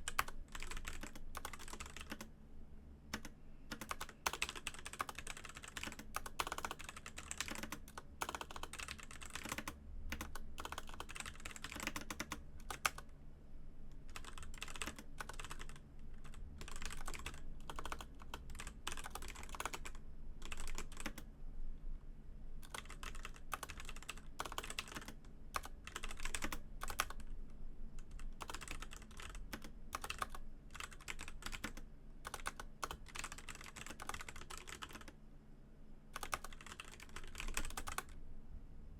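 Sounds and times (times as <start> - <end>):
faint low hum: 0.0 - 38.9.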